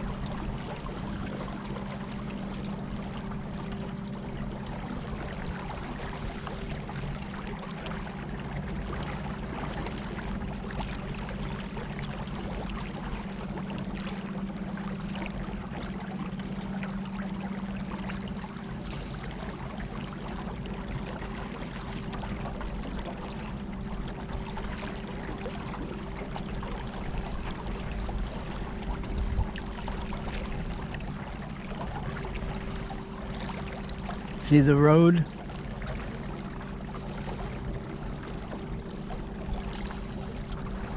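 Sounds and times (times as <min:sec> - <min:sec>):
water splashing along boat hull: 0:00.0 - 0:40.9.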